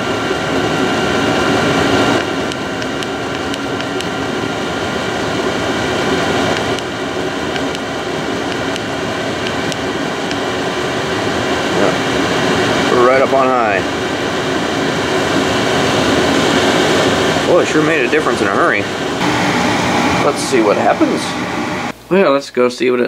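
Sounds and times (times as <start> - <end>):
air heater fan rushing and whining: 0.0 - 22.4.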